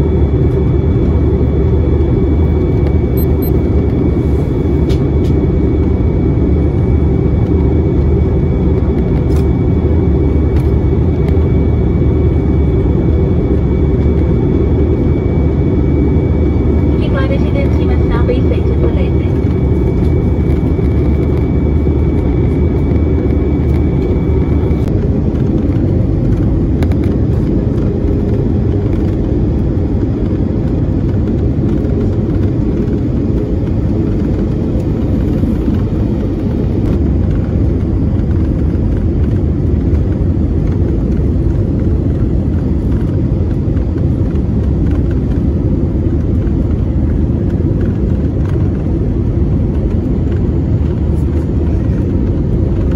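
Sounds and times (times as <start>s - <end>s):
aircraft cabin engine rumble: 0.0s - 52.9s.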